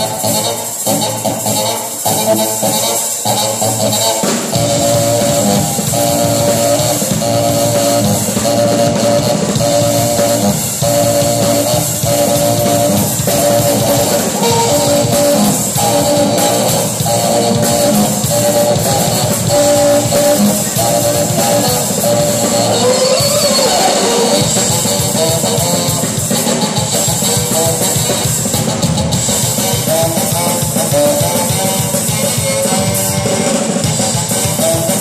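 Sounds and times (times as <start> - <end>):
rock drum kit: 0.0 - 35.0
saxophone riff: 0.0 - 35.0.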